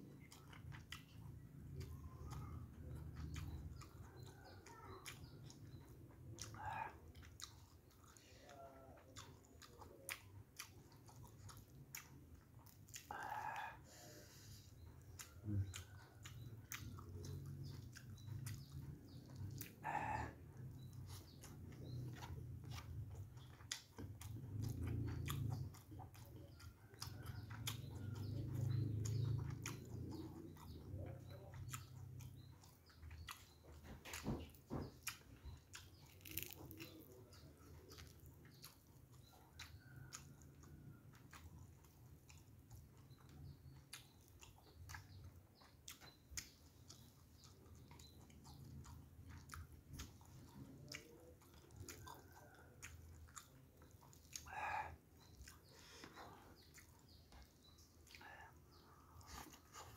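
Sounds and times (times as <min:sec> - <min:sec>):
person chewing wetly: 0:00.0 - 0:59.9.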